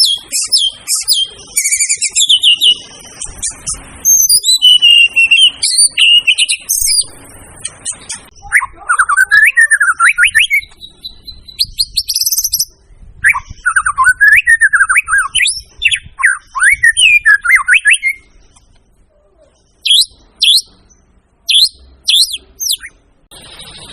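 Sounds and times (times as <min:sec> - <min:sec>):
bird singing whistles and trills: 0:00.0 - 0:18.5, 0:19.8 - 0:23.9.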